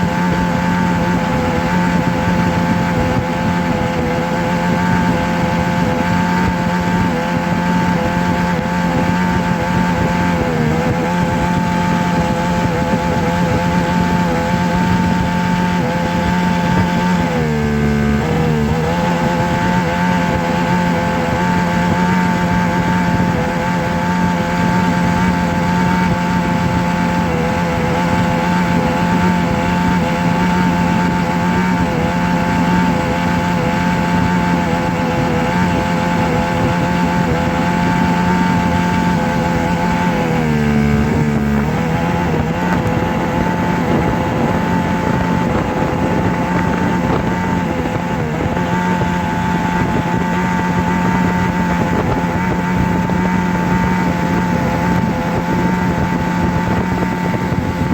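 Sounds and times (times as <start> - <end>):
motor droning: 0.0 - 57.9.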